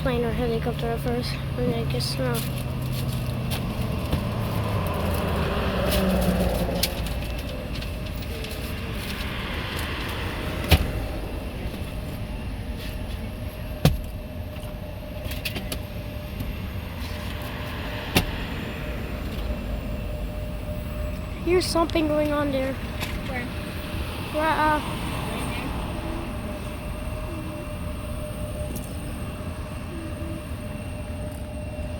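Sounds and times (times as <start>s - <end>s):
car road and engine rumble: 0.0s - 31.9s.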